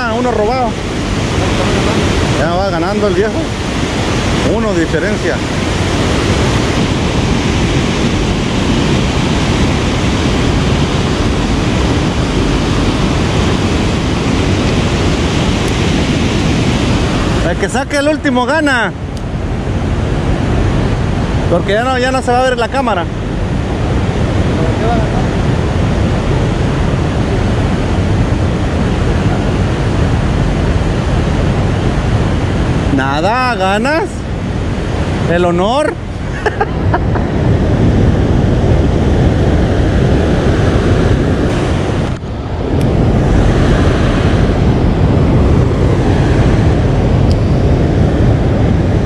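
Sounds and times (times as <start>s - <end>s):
water rushing: 0.0s - 49.0s.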